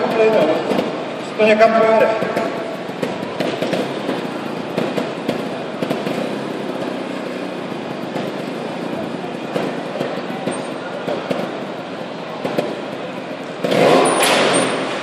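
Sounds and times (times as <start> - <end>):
murmur of large crowd echoing: 0.0 - 15.0.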